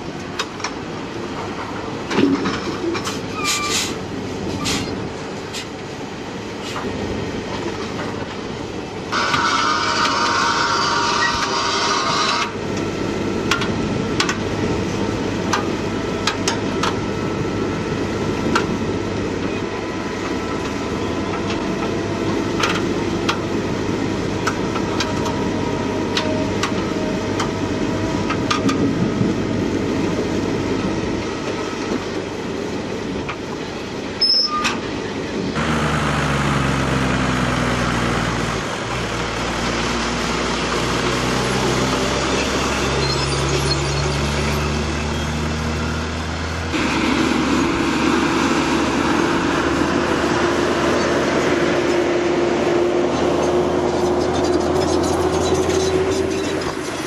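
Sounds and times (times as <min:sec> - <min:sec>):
heavy machinery running: 0:00.0 - 0:34.2, 0:34.8 - 0:57.0.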